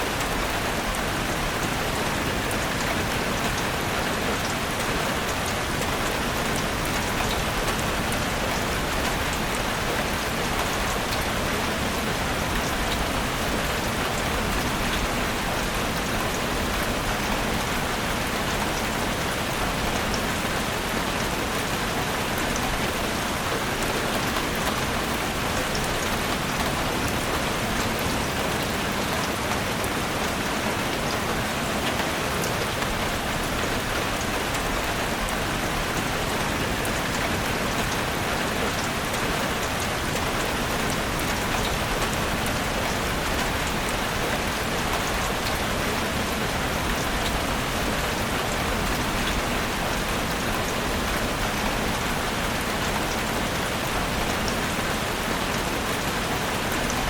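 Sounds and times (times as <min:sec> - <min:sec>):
rain hissing in a forest: 0:00.0 - 0:57.0.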